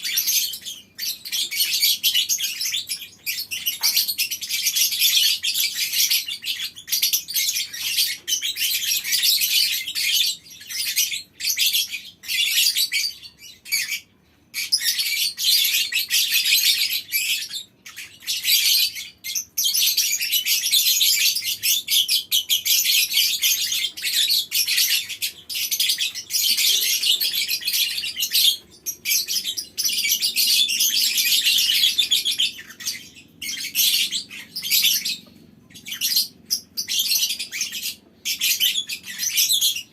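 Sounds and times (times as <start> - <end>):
lovebirds chattering shrilly: 0.0 - 39.9.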